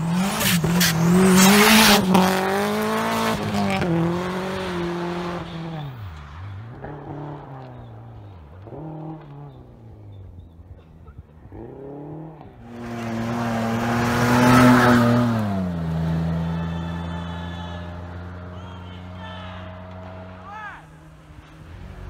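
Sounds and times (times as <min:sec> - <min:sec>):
pickup truck driving past: 0:00.0 - 0:22.0
rally car engine accelerating: 0:00.0 - 0:22.0
tyres on gravel: 0:00.0 - 0:22.0.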